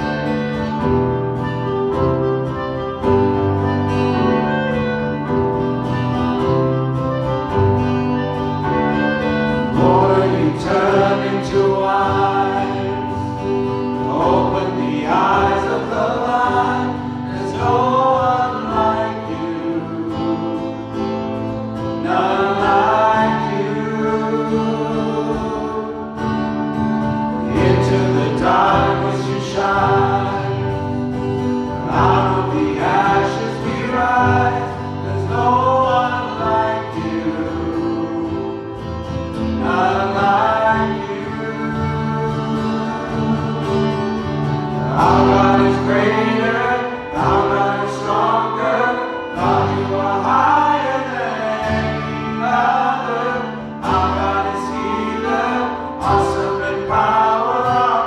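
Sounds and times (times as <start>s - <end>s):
guitar and steady chords: 0.0s - 58.0s
voices singing: 0.0s - 58.0s.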